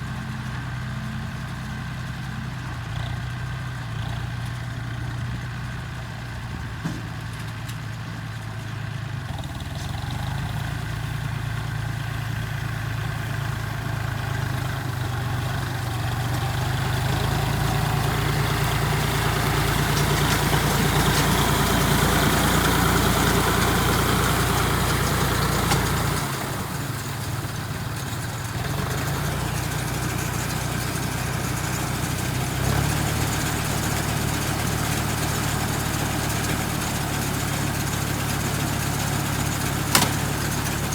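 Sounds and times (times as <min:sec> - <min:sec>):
engine humming: 0:00.0 - 0:40.9.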